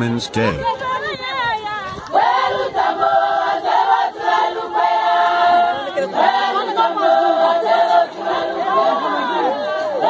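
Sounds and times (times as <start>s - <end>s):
women singing unaccompanied: 0.6s - 10.0s.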